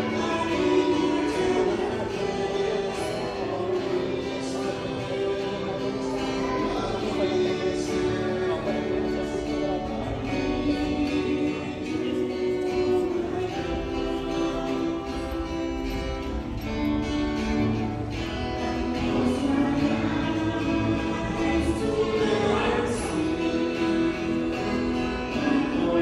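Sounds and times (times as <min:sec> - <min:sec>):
slow church music: 0:00.0 - 0:26.0.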